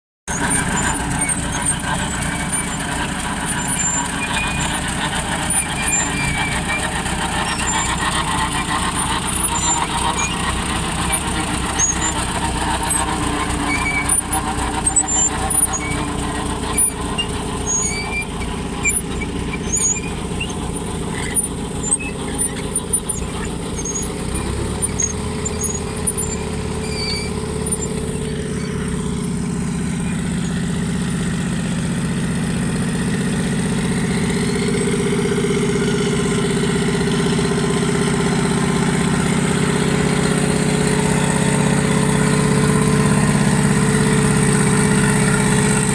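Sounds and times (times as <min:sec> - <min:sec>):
tractor engine running: 0:00.3 - 0:45.9.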